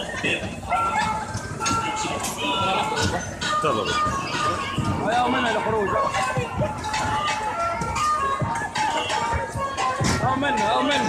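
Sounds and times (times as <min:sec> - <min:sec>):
background music: 0:00.0 - 0:11.0
voices: 0:00.0 - 0:11.0.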